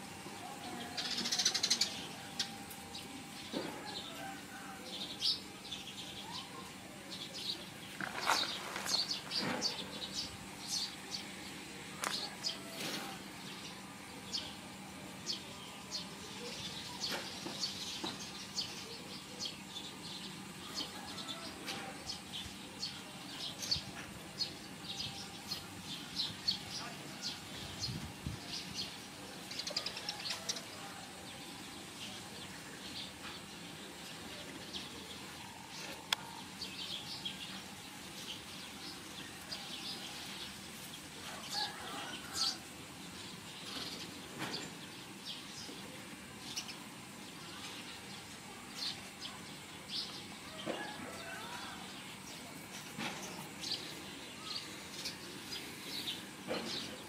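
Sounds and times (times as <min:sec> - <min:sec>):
outdoor background noise: 0:00.0 - 0:57.0
small birds chirping: 0:04.8 - 0:57.0.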